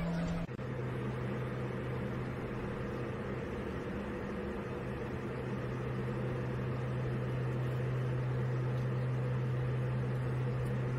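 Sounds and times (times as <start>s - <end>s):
aircraft cabin drone: 0.0s - 10.9s.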